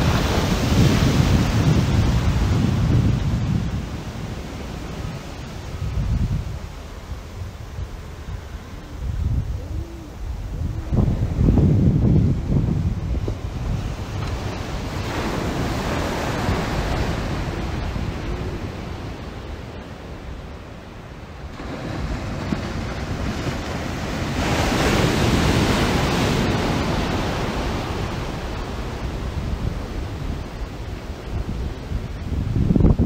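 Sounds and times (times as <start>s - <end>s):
ocean surf washing in and out: 0.0s - 33.0s
wind rumbling on microphone: 0.0s - 33.0s.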